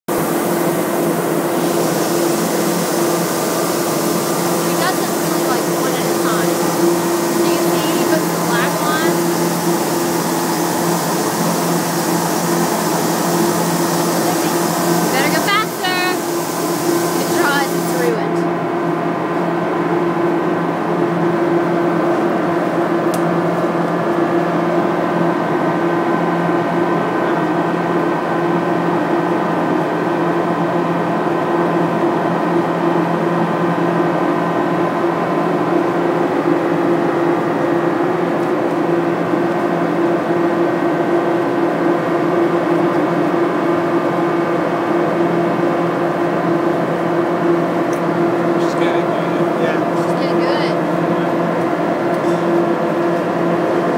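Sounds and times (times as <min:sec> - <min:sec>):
low machine hum: 0:00.1 - 0:53.9.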